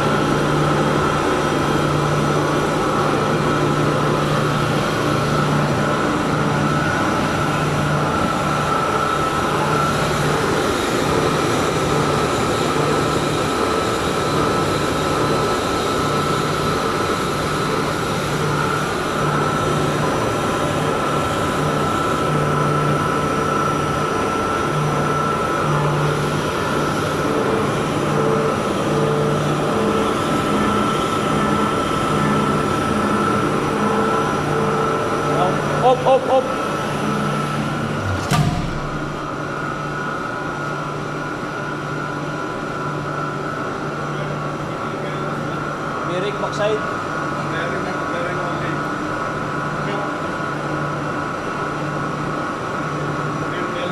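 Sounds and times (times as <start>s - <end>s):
pump motor whining and humming: 0.0s - 53.9s.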